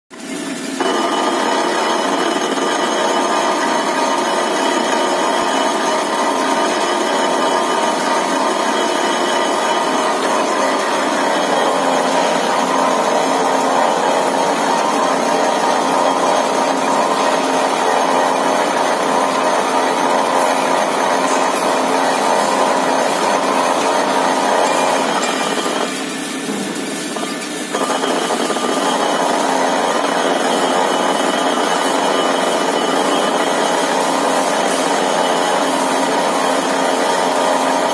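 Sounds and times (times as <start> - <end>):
metal lathe running: 0.2 - 37.9.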